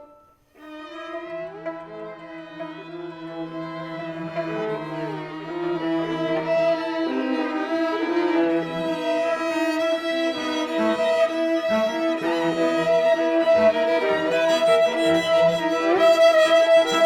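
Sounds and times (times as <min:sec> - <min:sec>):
violin lines with glissandi: 0:00.0 - 0:17.0.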